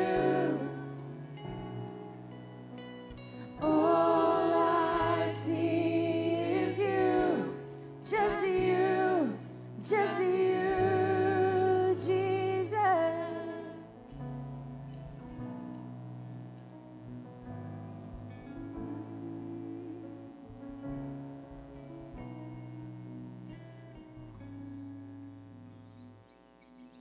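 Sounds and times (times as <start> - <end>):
bass guitar: 0.0 - 26.3
soft keyboard: 0.0 - 27.0.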